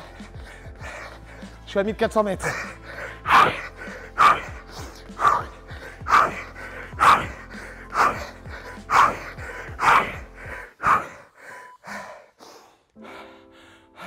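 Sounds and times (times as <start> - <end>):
man gasping breaths: 0.0 - 1.7, 2.4 - 14.0
background music: 0.0 - 14.0.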